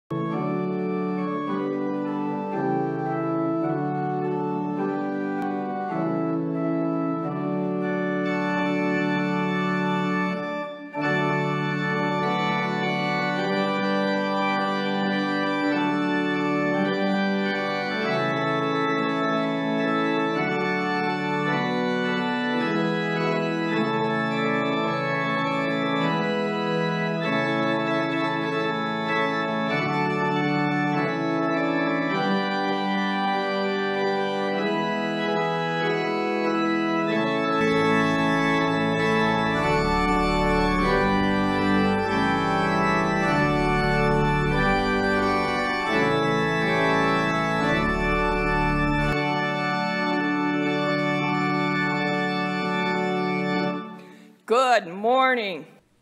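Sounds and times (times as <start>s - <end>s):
pipe organ chords: 0.1s - 54.5s.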